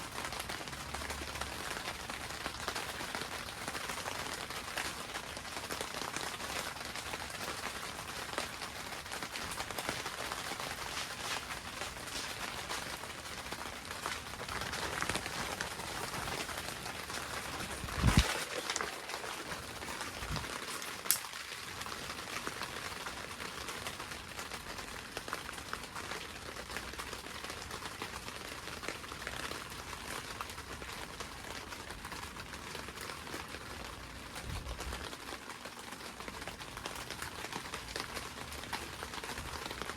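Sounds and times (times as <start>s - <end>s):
rain on greenhouse roof: 0.0s - 39.9s.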